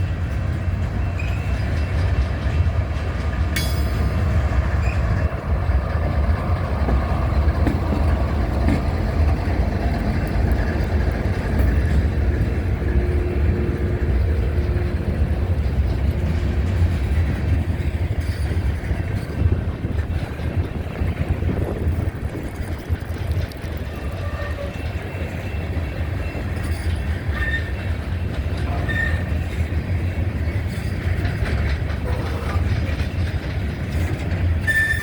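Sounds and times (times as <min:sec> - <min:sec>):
freight train cars rumbling past: 0:00.0 - 0:35.0.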